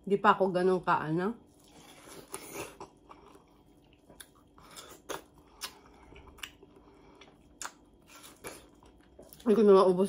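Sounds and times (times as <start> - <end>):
wet crunches of chewing watermelon: 1.4 - 9.7.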